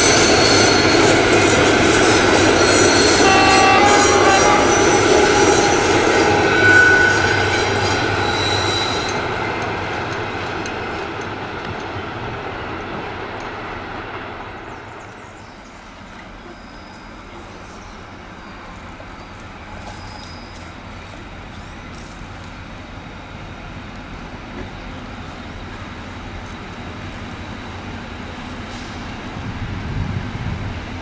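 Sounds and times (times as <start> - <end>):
locomotive engine drone: 0.0 - 31.0.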